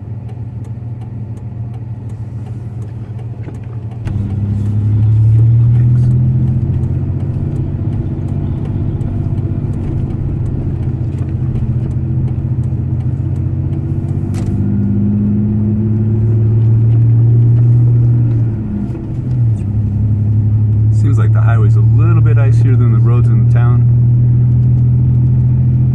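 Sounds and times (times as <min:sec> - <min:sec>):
truck engine and tyre drone: 0:00.0 - 0:25.9.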